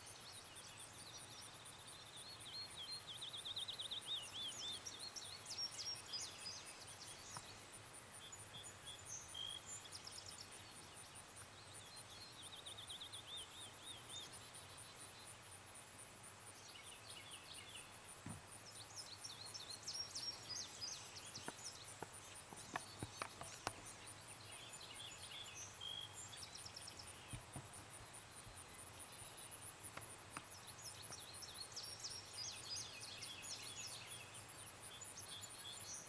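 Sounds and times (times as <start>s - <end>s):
songbirds singing trilled phrases: 0.0s - 15.6s, 18.6s - 36.0s.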